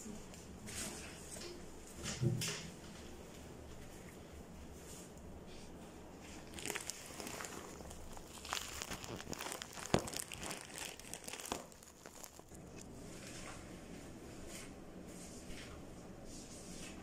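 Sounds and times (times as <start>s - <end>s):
rustling and crinkling handling: 0.0s - 17.0s.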